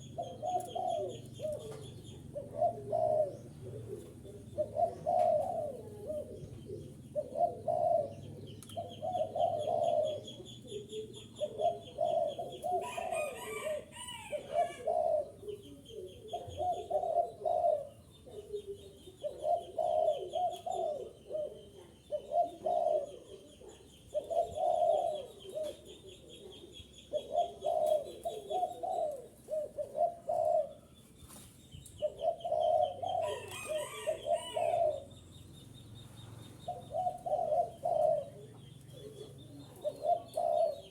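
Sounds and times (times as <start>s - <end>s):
dove cooing: 0.0s - 31.1s, 31.8s - 40.9s.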